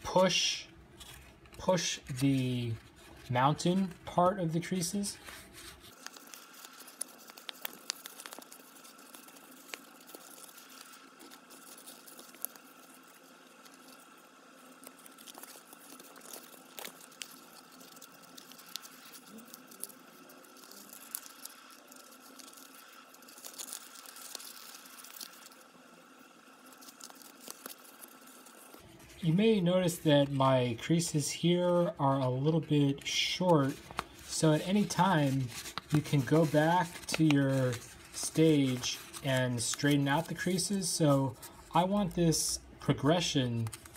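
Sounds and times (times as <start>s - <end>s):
faint steady hum: 0.0s - 43.9s
paper crinkling and crackling: 0.9s - 43.9s.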